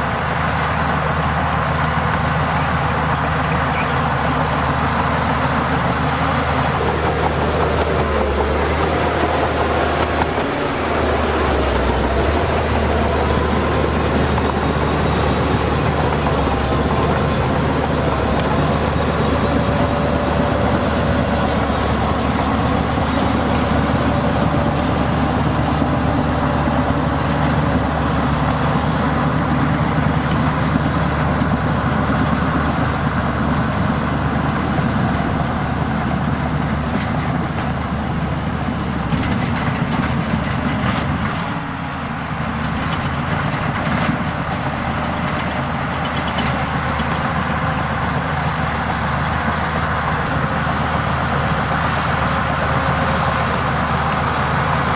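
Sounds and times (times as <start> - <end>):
diesel machinery engine running: 0.0 - 54.9.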